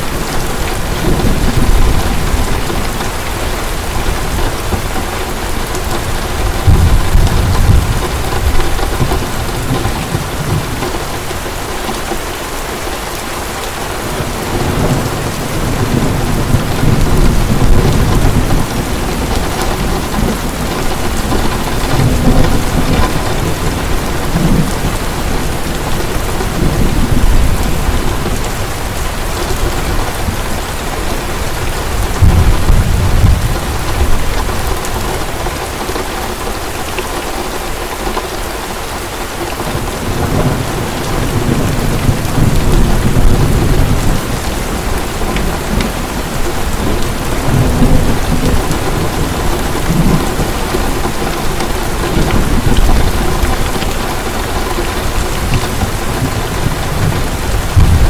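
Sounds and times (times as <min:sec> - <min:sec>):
thunder rumbling: 0:00.0 - 0:12.6, 0:13.6 - 0:36.7, 0:39.6 - 0:58.0
heavy rain falling: 0:00.0 - 0:58.0.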